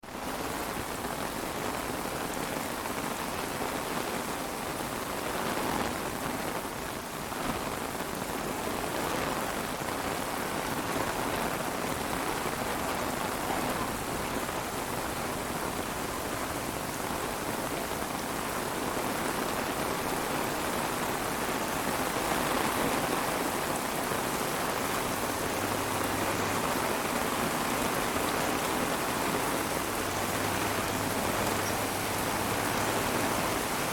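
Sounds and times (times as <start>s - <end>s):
rain pattering on a surface: 0.0s - 33.9s.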